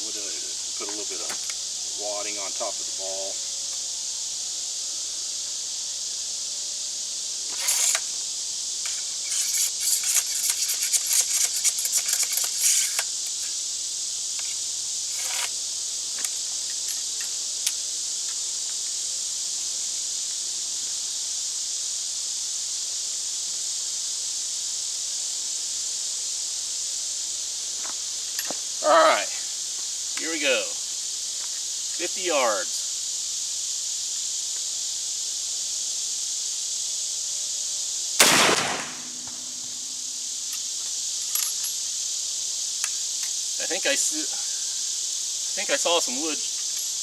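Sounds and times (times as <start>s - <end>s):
steady high hiss: 0.0s - 47.0s.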